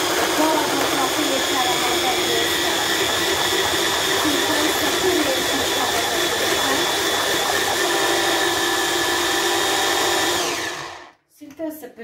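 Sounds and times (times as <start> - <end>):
electric blender running: 0.0 - 11.2.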